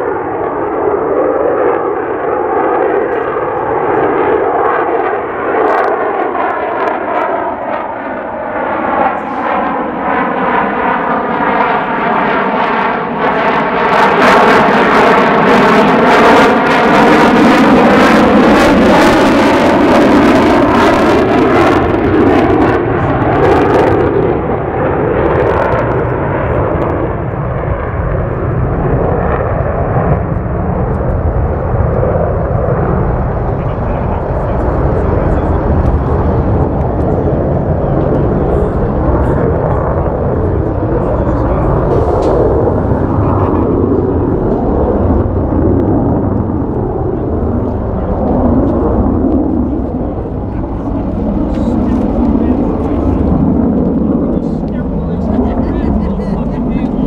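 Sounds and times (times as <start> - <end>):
fighter jet passing: 0.0 - 57.0.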